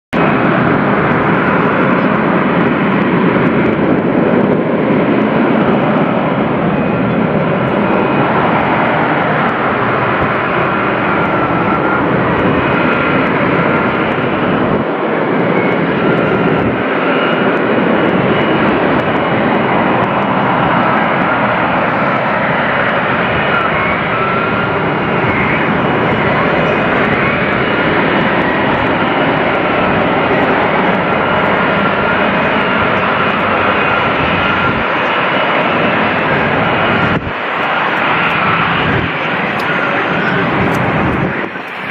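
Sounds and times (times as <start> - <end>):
loud jet engine noise: 0.1 - 41.9.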